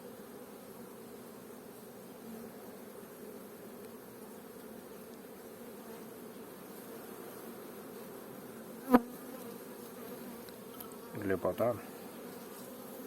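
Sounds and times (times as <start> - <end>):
bees humming: 0.0 - 13.0
sharp bee buzz close by: 0.0 - 13.0.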